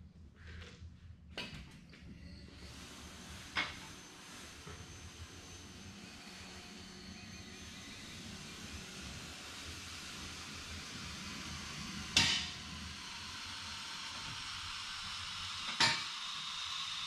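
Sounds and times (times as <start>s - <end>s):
hydraulic car lift hissing: 2.6s - 17.0s.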